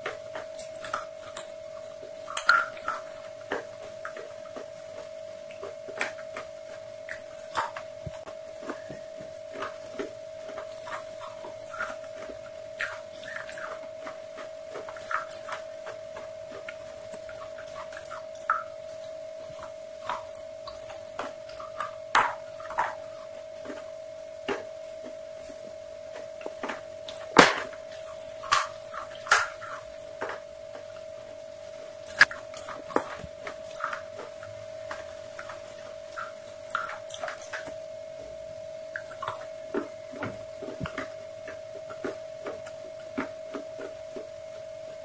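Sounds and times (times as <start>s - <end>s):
chewing crunchy fried chicken: 0.0s - 37.8s, 38.9s - 44.6s.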